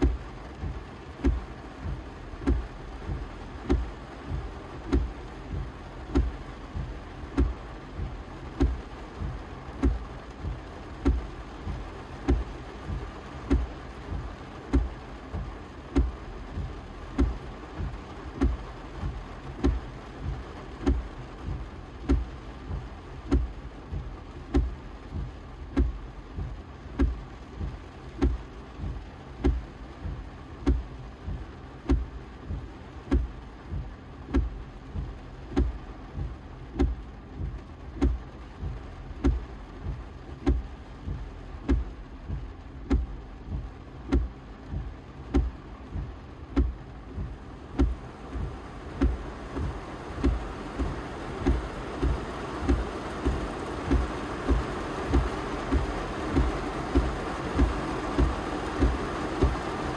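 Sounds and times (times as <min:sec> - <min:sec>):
heavy rain on windshield: 0:00.0 - 0:59.9
windshield wipers thumping: 0:00.0 - 0:59.9.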